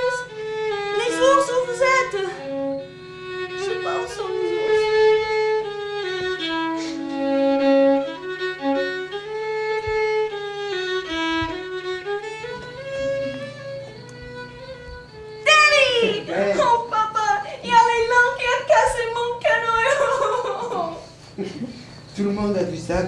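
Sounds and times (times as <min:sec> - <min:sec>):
fiddle playing a melody: 0:00.0 - 0:21.2.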